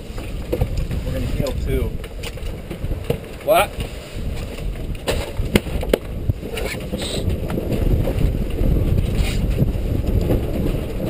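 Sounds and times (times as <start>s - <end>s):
boat clicks and knocks: 0.0s - 11.0s
wind buffeting microphone: 0.0s - 11.0s.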